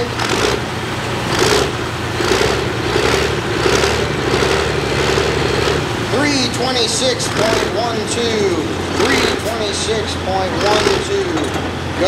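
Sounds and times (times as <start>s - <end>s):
tractor diesel engine revving: 0.0s - 12.0s.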